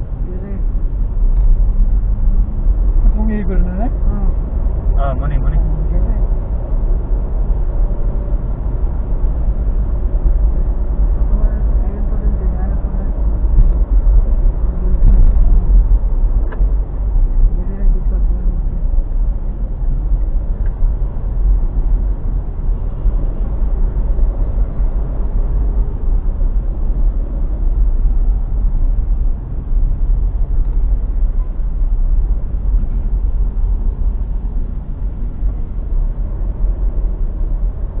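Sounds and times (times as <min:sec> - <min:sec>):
car engine rumble: 0:00.0 - 0:38.0
tyre noise on road: 0:00.0 - 0:38.0.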